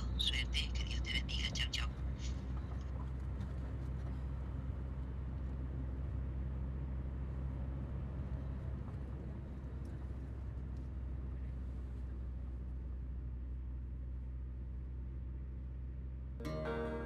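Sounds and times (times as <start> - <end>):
low mechanical hum with rumble: 0.0 - 16.4.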